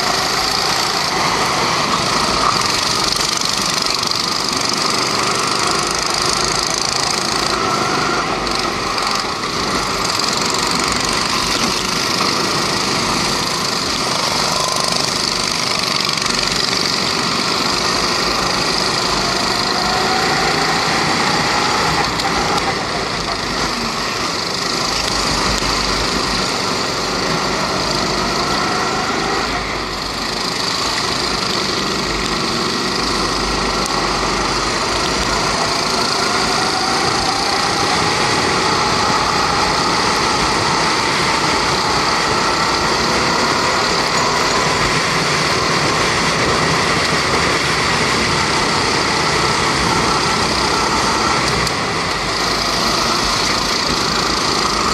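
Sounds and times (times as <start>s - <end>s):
kart engine under load: 0.0s - 54.9s.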